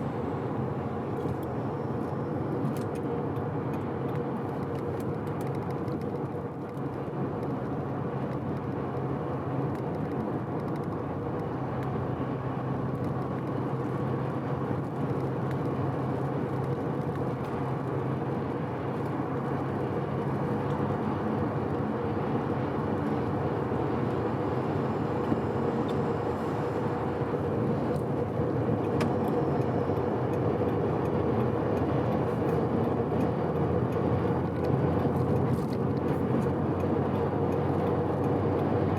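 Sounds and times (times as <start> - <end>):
rotary car engine cruising: 0.0 - 38.9.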